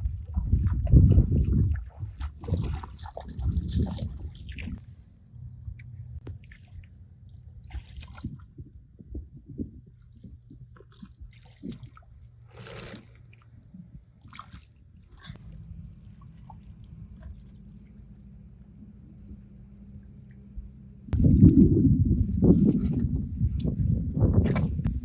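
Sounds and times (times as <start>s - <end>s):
water splashing and squelching: 0.0s - 5.1s, 5.8s - 18.1s, 21.1s - 25.0s.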